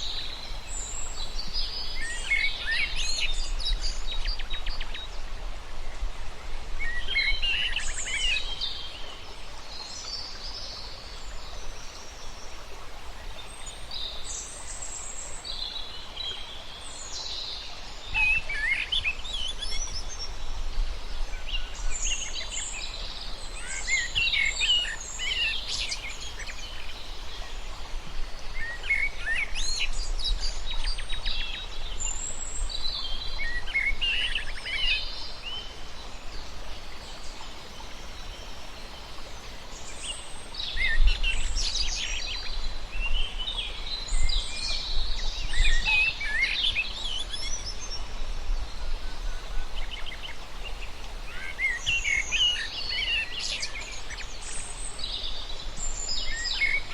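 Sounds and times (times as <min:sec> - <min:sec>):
background hiss: 0:00.0 - 0:56.9.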